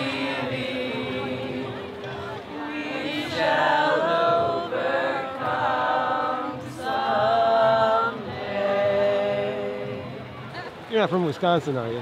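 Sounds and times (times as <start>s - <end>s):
crowd singing unaccompanied: 0.0s - 11.0s.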